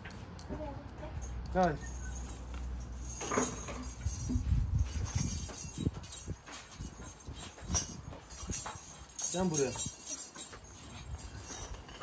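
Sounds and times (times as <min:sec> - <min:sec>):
footsteps on tiled patio: 0:00.0 - 0:12.0.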